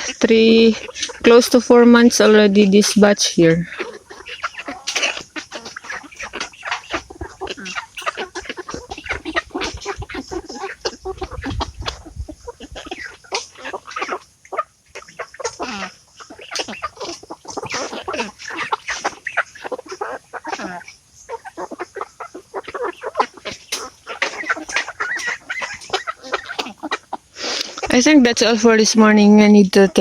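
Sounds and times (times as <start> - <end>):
chickens clucking and calling: 0.0 - 30.0.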